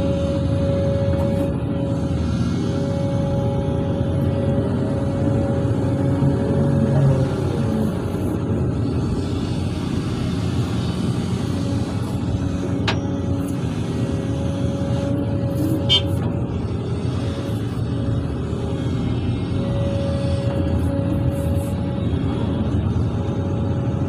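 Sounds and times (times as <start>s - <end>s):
excavator diesel engine: 0.0s - 24.0s
steady high whine: 0.0s - 24.0s.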